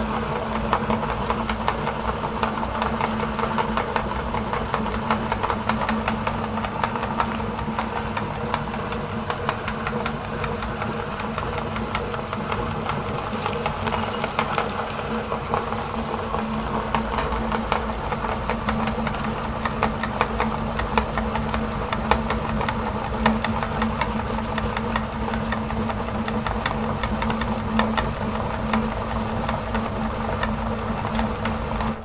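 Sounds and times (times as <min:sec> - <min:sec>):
chocolate crackling in grinder: 0:00.0 - 0:32.0
meat grinder motor humming: 0:00.0 - 0:32.0.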